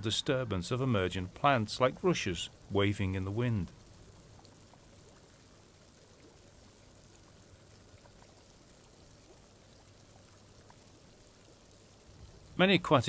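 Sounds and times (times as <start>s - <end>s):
water trickling and bubbling: 0.0s - 13.0s.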